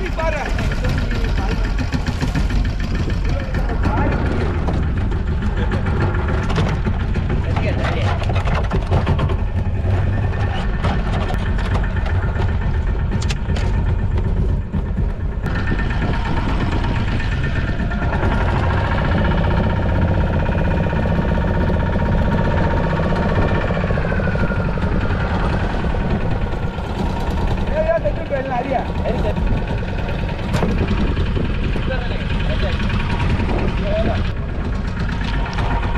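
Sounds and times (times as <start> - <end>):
boat engine rumbling: 0.0 - 35.9.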